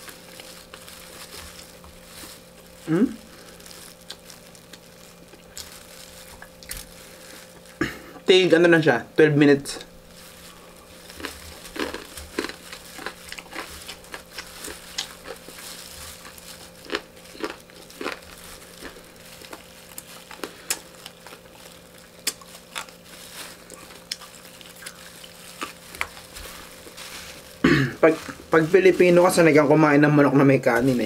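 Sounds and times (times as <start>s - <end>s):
chewing crunchy food: 0.0s - 8.0s, 9.8s - 29.5s
plastic glove rustling: 0.0s - 31.0s.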